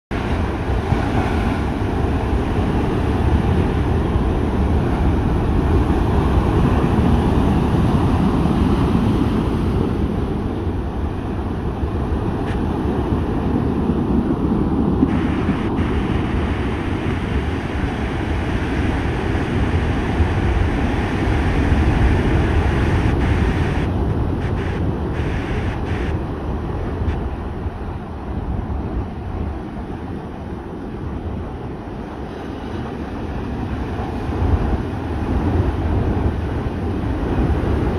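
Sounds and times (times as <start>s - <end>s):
heavy surf breaking: 0.1s - 37.9s
wind buffeting microphone: 0.1s - 37.9s.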